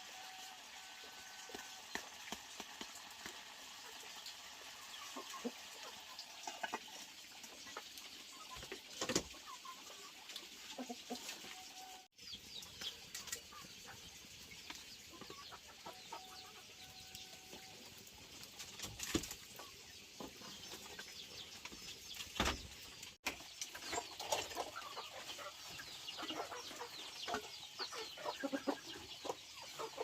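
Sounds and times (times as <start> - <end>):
chickens clucking: 0.2 - 22.5, 23.3 - 30.0.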